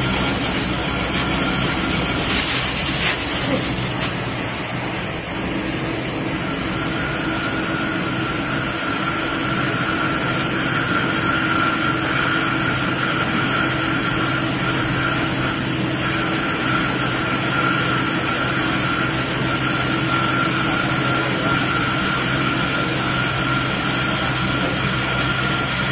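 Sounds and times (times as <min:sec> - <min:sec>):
high whine: 0:00.0 - 0:25.9
lathe machining metal: 0:00.0 - 0:25.9.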